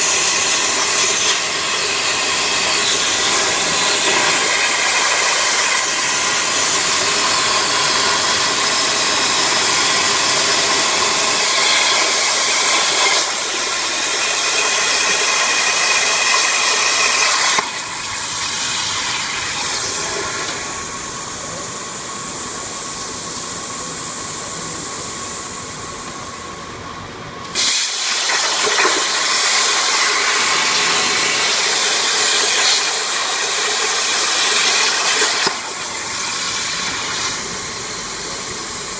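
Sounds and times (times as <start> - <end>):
plasma torch arc hissing: 0.0 - 25.8, 27.5 - 38.9.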